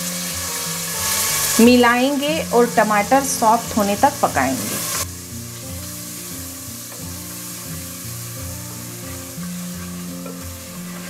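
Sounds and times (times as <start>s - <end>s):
soft background music: 0.0s - 11.0s
vegetables sizzling in hot oil: 0.0s - 11.0s.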